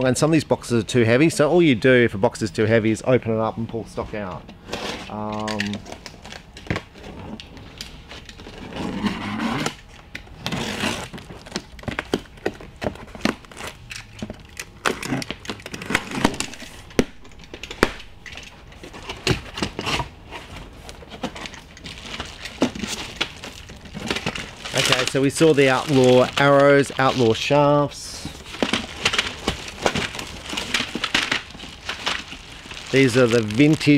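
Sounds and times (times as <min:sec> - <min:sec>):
plastic crinkling and rustling: 0:04.6 - 0:33.9.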